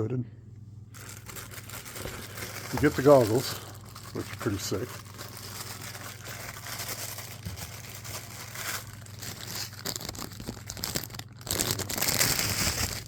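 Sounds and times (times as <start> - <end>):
packaging crinkling: 0.9 - 13.0.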